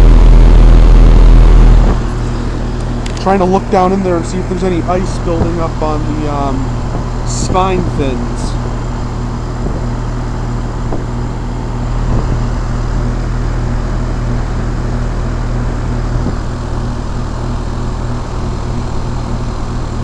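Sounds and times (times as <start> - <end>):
compressor humming: 0.0 - 20.0
condenser fan rushing: 0.0 - 20.0.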